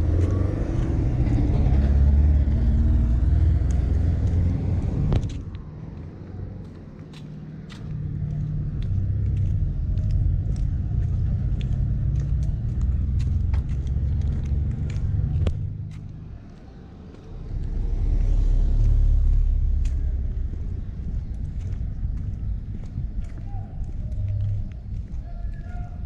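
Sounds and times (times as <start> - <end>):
loud low rumble: 0.0 - 6.6, 7.9 - 26.0
footsteps on paving stones: 3.2 - 26.0.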